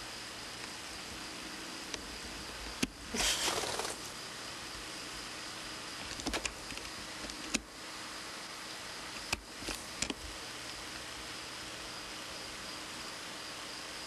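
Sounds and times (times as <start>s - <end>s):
recording noise hiss: 0.0s - 14.0s.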